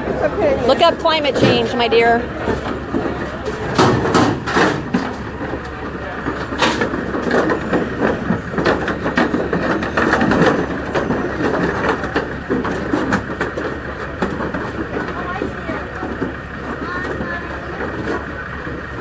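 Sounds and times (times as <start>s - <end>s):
crowd talking: 0.0s - 19.0s
knocks and clatter: 0.0s - 19.0s.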